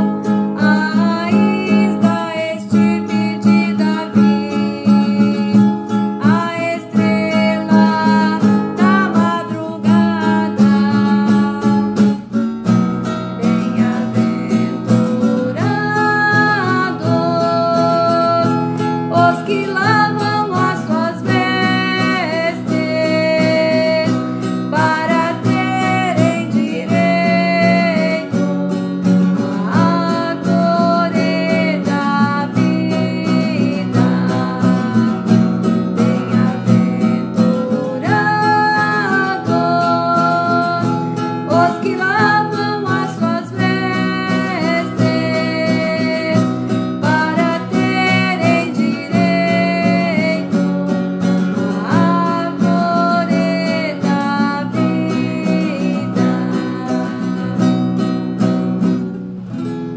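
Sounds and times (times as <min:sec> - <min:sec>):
woman singing a hymn: 0:00.0 - 0:12.2, 0:13.4 - 0:57.9
acoustic guitar strumming: 0:00.0 - 0:59.9.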